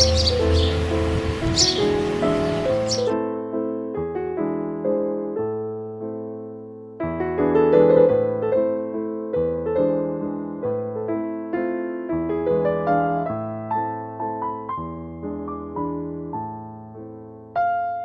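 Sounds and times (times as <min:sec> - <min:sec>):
gentle electric piano melody: 0:00.0 - 0:18.0.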